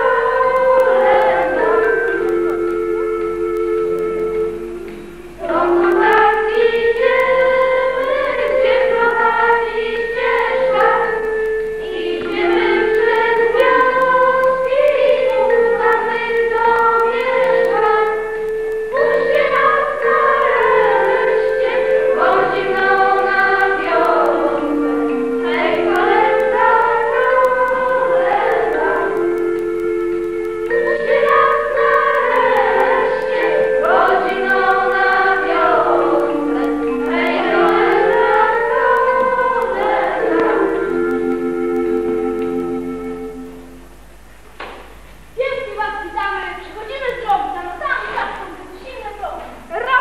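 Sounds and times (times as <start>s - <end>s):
group singing a carol: 0.0s - 43.8s
held instrumental chords: 0.0s - 50.0s.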